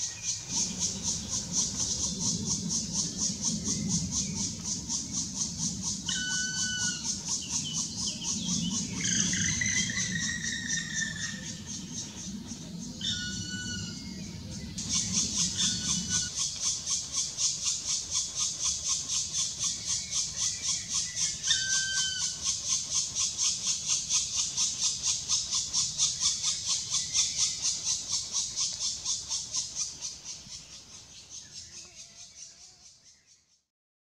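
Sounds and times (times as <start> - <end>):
woodpecker nestlings begging calls: 0.2 - 14.2, 14.8 - 32.0.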